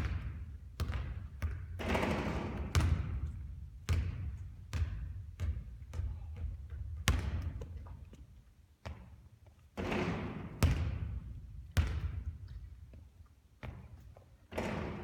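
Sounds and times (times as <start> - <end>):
basketball bouncing on hard court: 0.0 - 8.2, 8.8 - 9.2, 9.8 - 12.6, 13.6 - 15.0.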